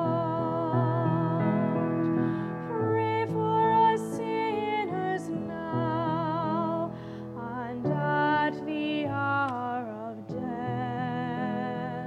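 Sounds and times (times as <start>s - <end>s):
piano chords: 0.0s - 12.0s
soprano singing a hymn: 0.0s - 12.0s.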